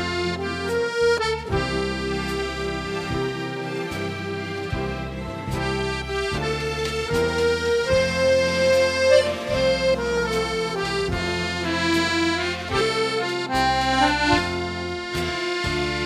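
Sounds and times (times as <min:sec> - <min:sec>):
piano accordion melody: 0:00.0 - 0:16.0.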